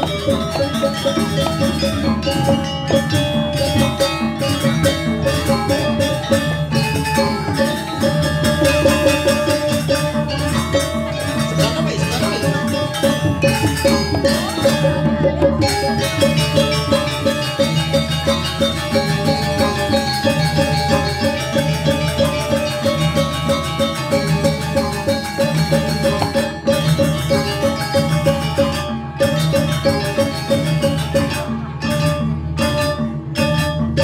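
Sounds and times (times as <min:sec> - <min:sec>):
drums: 0:00.0 - 0:34.0
gamelan playing: 0:00.0 - 0:34.0.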